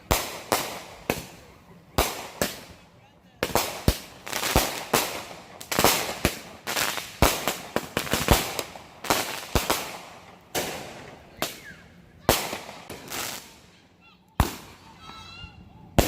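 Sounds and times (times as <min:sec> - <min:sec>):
fireworks bangs: 0:00.0 - 0:13.8, 0:14.4 - 0:16.0.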